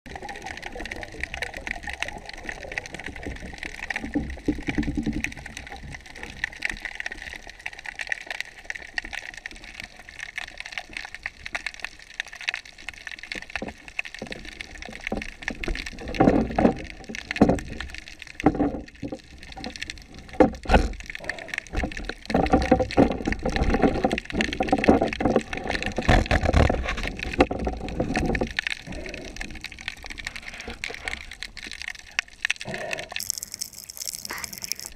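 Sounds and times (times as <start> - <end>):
water gurgling and sloshing: 0.1 - 34.9.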